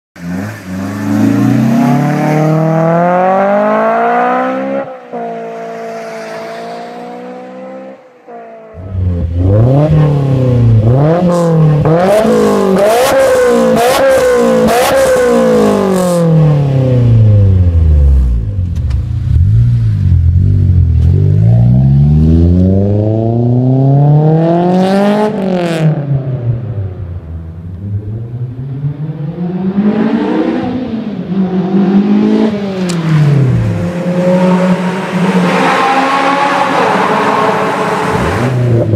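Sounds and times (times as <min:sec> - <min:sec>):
car engine revving: 0:00.2 - 0:38.9.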